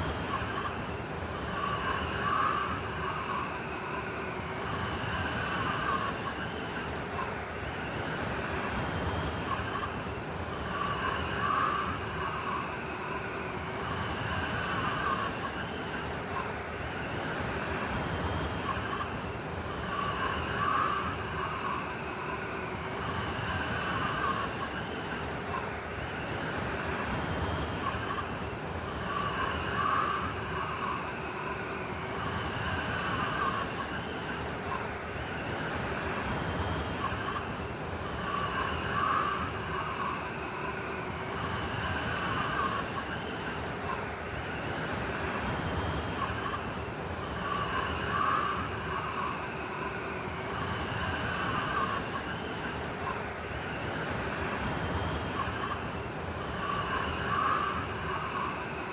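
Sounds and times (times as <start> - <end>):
whistling blizzard wind: 0.0 - 58.9.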